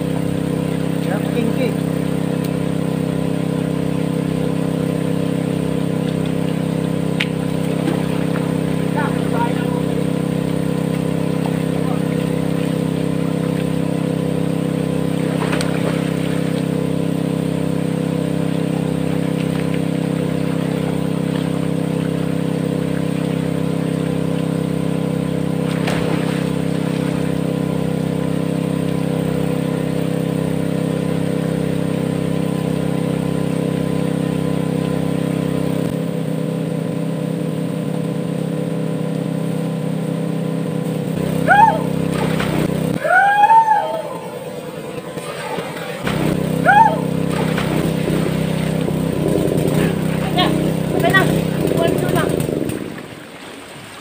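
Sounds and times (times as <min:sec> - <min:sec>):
small engine running: 0:00.0 - 0:53.2.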